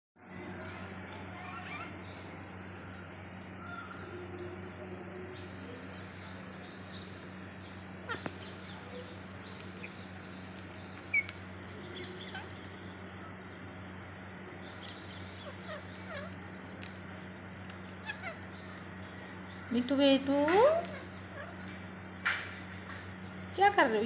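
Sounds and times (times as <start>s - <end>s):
steady low hum: 0.2s - 24.0s.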